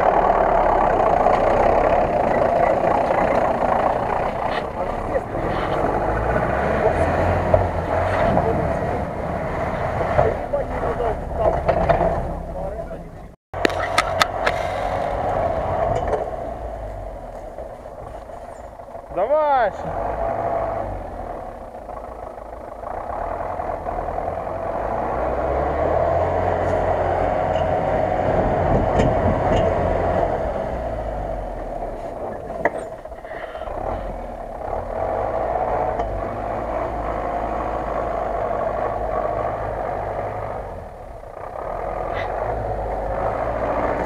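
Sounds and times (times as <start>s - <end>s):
truck engine working hard: 0.0s - 44.0s.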